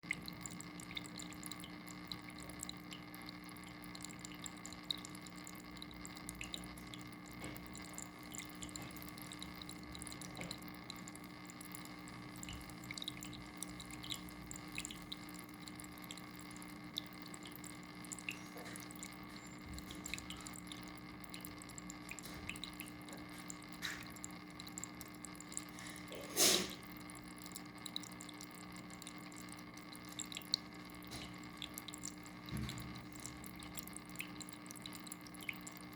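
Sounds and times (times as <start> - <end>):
water dripping: 0.0 - 35.9.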